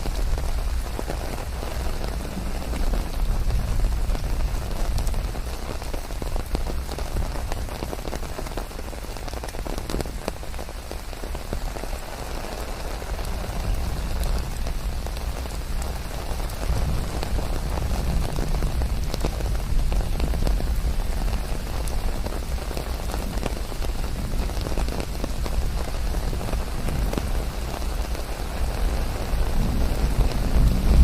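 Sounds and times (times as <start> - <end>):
rain drops ticking: 0.0 - 31.0.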